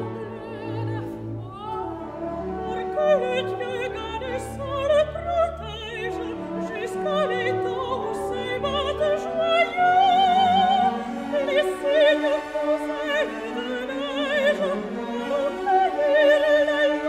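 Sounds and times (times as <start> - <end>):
orchestral accompaniment: 0.0 - 17.0.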